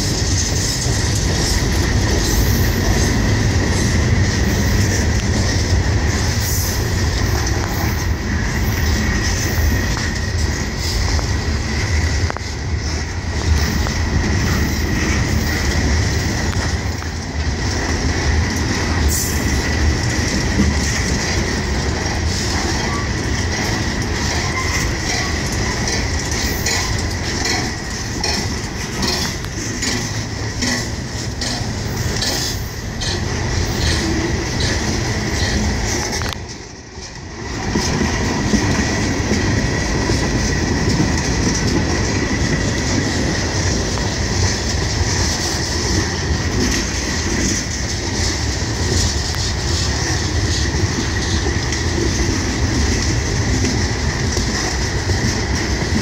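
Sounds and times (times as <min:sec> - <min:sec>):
steel wheels rumbling on rail: 0:00.0 - 0:56.0
wheels clicking over joints: 0:00.0 - 0:56.0.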